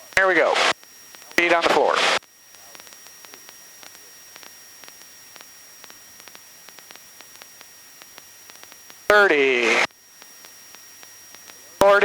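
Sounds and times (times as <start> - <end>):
faint static ticks: 0.0 - 12.0
intercom audio hiss: 0.0 - 12.0
thin high whine: 0.0 - 12.0.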